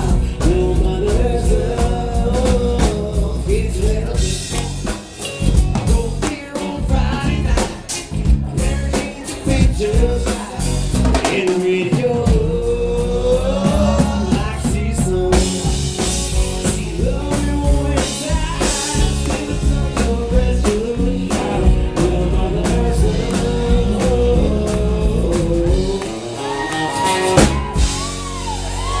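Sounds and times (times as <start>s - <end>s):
bass guitar: 0.0s - 29.0s
drums: 0.0s - 29.0s
person singing: 0.0s - 29.0s.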